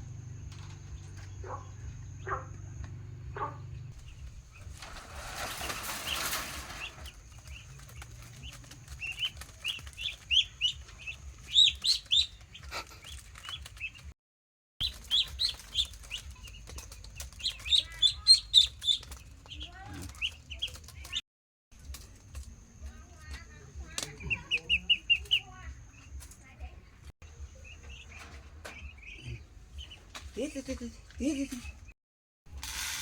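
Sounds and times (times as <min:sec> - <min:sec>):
ducklings peeping: 0:00.9 - 0:14.1, 0:14.8 - 0:21.2, 0:21.8 - 0:31.9.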